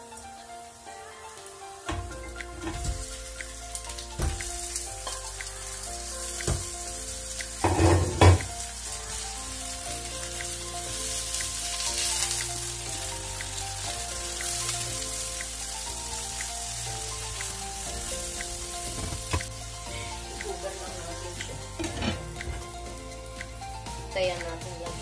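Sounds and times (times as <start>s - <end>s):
background music: 0.0s - 25.0s
pork sizzling in hot oil: 0.0s - 25.0s.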